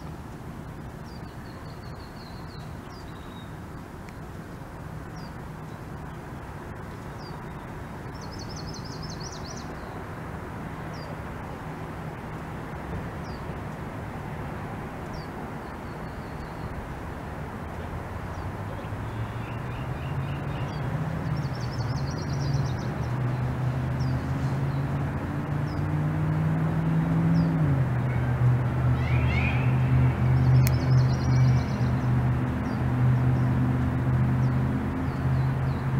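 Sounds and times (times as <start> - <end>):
small birds chirping: 0.7 - 11.5, 13.0 - 13.6, 15.0 - 17.0, 17.6 - 26.2, 27.2 - 35.9.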